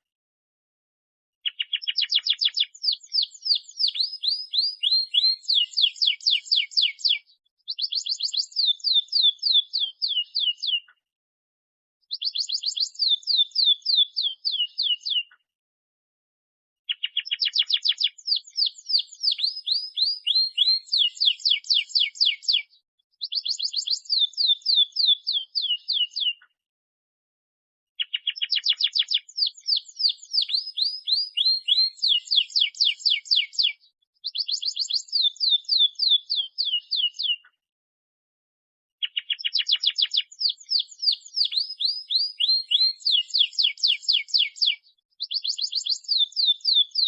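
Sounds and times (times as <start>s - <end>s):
canary singing trills: 1.4s - 11.0s, 12.1s - 15.4s, 16.9s - 26.4s, 28.0s - 37.5s, 39.0s - 47.0s.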